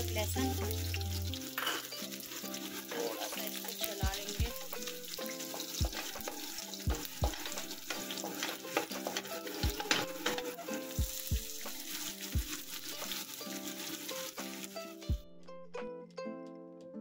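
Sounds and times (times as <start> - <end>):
garlic sizzling in hot oil: 0.0 - 15.2
wooden spatula stirring in wok: 0.2 - 15.1.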